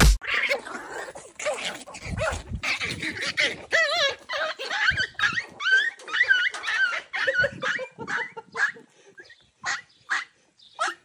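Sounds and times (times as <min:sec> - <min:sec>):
puppies whining and yipping: 0:00.2 - 0:11.0.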